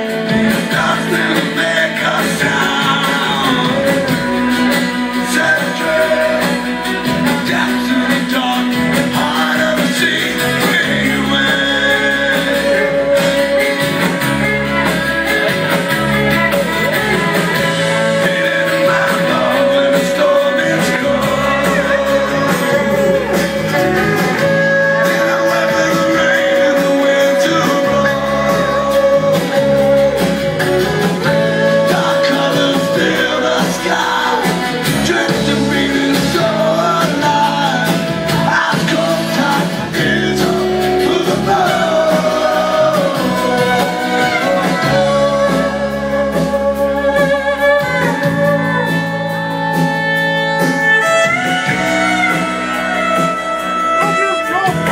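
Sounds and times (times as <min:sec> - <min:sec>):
folk-rock band playing: 0:00.0 - 0:54.9
man singing: 0:00.0 - 0:54.9.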